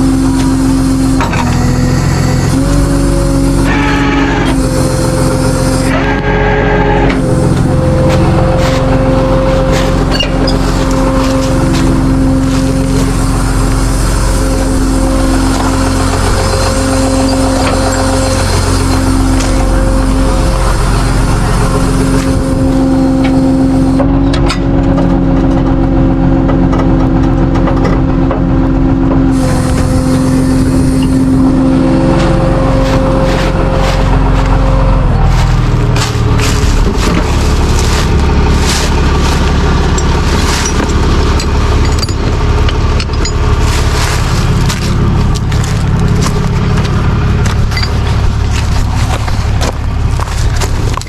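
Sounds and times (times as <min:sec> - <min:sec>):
steady winch whine: 0:00.0 - 0:51.0
truck engine running under load: 0:00.0 - 0:51.0.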